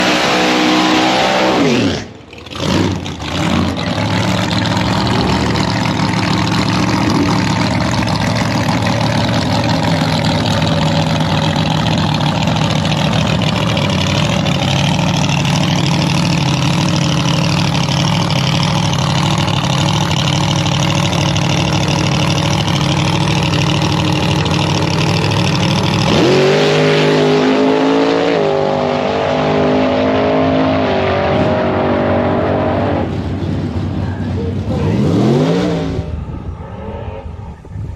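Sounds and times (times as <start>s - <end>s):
loud engine running and revving: 0.0s - 37.9s.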